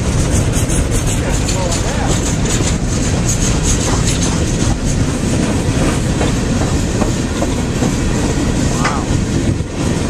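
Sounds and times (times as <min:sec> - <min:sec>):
freight train wheels rumbling on rail: 0:00.0 - 0:10.0.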